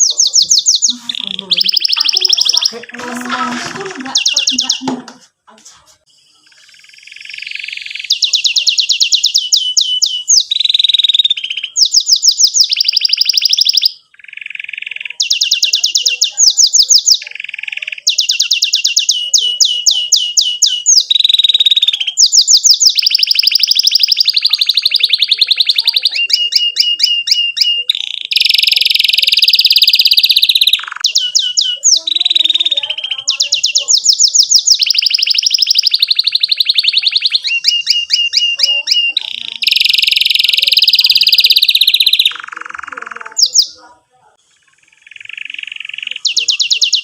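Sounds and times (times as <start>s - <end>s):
canary singing trills: 0.0s - 47.0s.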